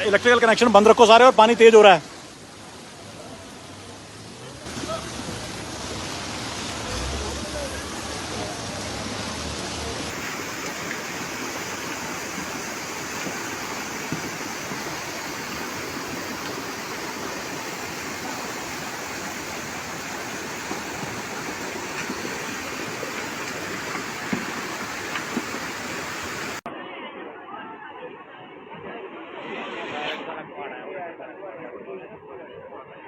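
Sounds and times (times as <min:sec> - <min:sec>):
floodwater rushing: 0:00.0 - 0:26.7.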